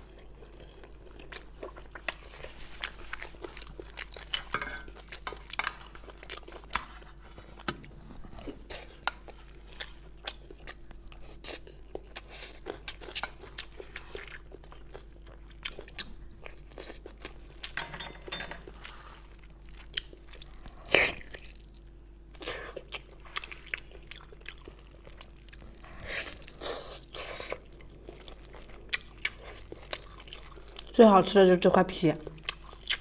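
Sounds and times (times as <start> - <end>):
chewing and mouth sounds: 0.0 - 17.8, 18.6 - 31.0, 32.2 - 33.0.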